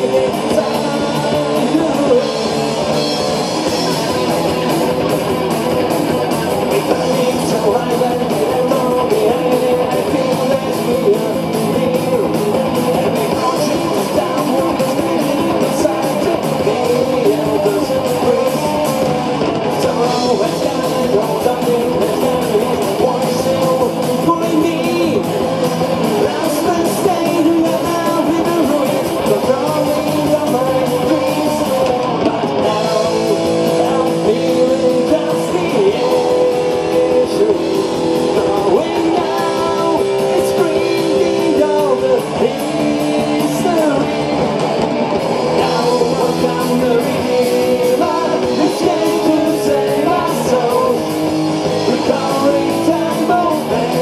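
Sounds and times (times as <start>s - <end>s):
bass guitar: 0.0s - 54.0s
drum kit: 0.0s - 54.0s
electric guitars: 0.0s - 54.0s
person singing: 0.0s - 54.0s.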